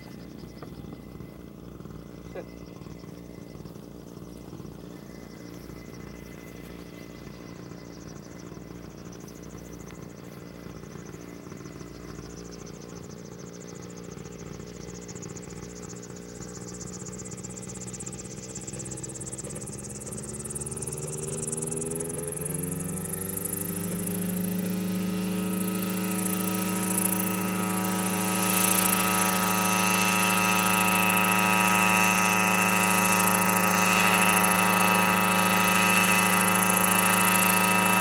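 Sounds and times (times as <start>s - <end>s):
helicopter engine and rotors: 0.0s - 38.0s
helicopter revving up: 0.0s - 38.0s.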